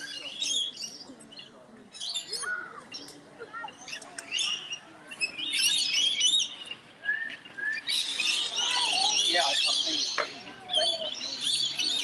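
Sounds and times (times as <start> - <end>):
lorikeets chattering: 0.0 - 12.0.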